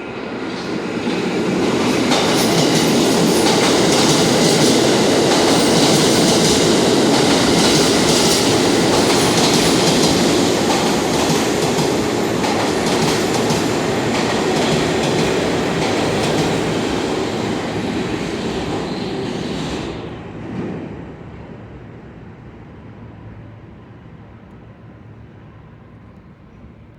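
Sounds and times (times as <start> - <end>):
subway train wheels clacking: 0.0 - 26.9.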